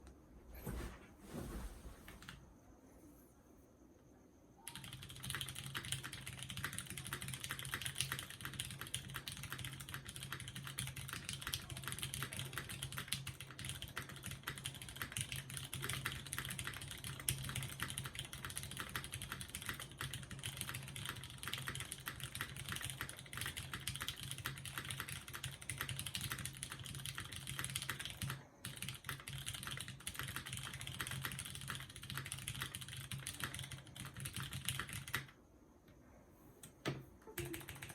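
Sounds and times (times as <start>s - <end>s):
mechanical keyboard typing: 4.7s - 35.4s, 36.6s - 37.9s.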